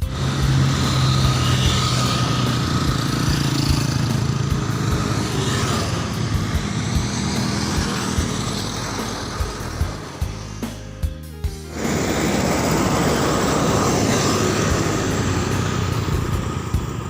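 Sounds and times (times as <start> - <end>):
bus engine drone: 0.0 - 11.0, 11.7 - 17.0
road traffic rumble: 0.0 - 17.0.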